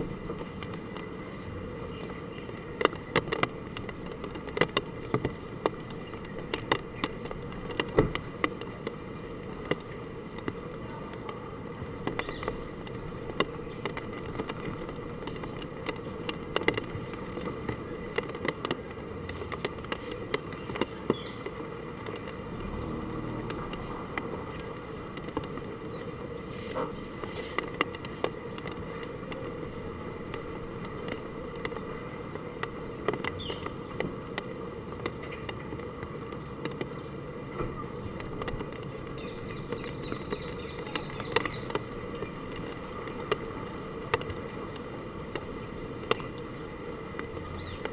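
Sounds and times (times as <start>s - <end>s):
raindrops tapping hard surfaces: 0.0s - 47.9s.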